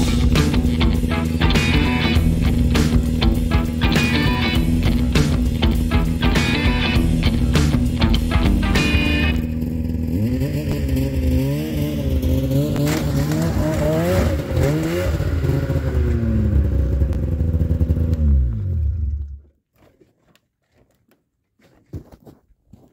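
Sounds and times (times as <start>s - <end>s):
snowmobile engine revving: 0.0s - 19.3s.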